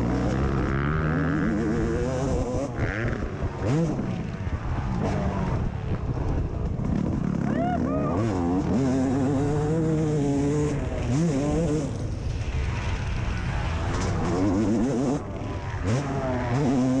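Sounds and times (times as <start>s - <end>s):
dirt bike engine revving: 0.0s - 17.0s
rushing wind: 0.0s - 17.0s.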